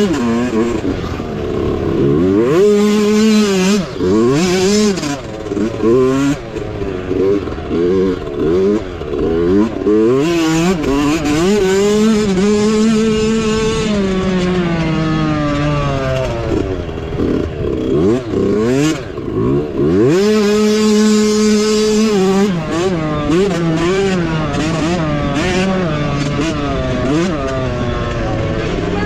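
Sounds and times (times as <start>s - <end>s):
mini bike engine revving: 0.0s - 29.0s.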